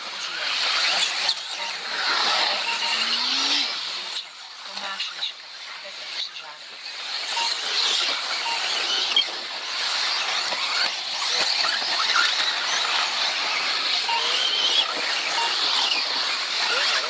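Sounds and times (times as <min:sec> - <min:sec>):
rc cars high-pitched whine: 0:00.0 - 0:17.0.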